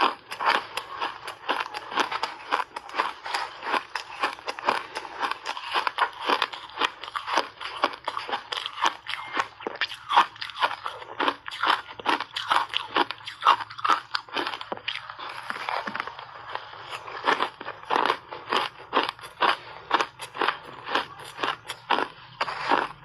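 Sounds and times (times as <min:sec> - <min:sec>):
person crunching ice: 0:00.0 - 0:23.0.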